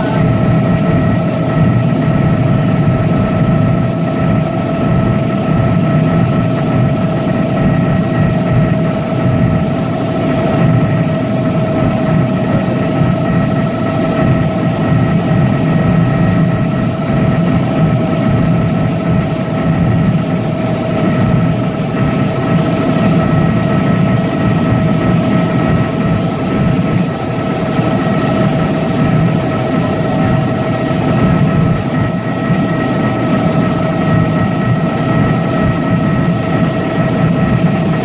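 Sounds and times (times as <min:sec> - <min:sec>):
constant whining tones: 0:00.0 - 0:38.0
helicopter rotor and engine drone: 0:00.0 - 0:38.0.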